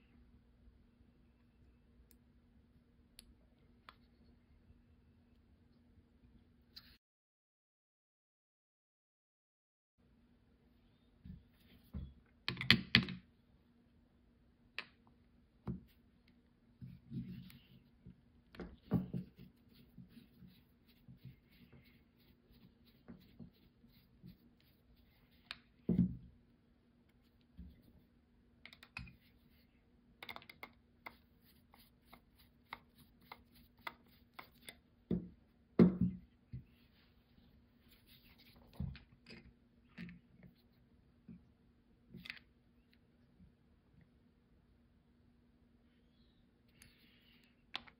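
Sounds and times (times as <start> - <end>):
faint steady hum: 0.0 - 7.0, 10.0 - 47.9.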